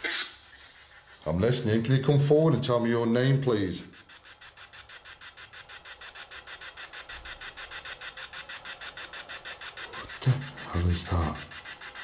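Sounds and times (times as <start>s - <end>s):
pulsing radio static hiss: 0.0s - 12.0s.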